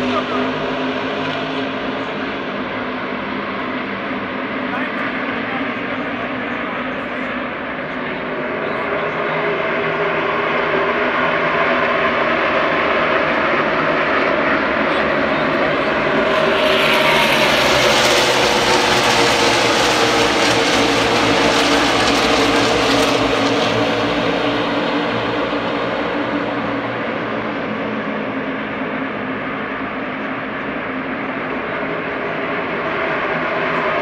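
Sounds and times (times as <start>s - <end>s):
race car engines droning: 0.0s - 34.0s
race cars passing by: 0.0s - 34.0s.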